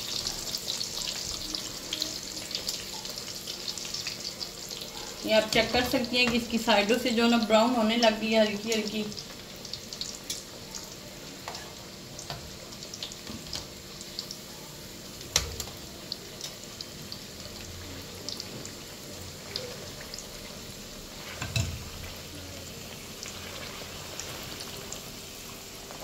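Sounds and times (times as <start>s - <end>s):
patties sizzling in oil: 0.0s - 26.0s.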